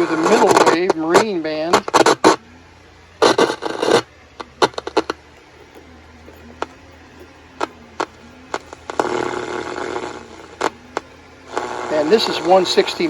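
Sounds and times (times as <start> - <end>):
faint radio tones: 0.0 - 13.0
radio hiss: 0.0 - 13.0
radio static clicks and crackles: 0.0 - 13.0.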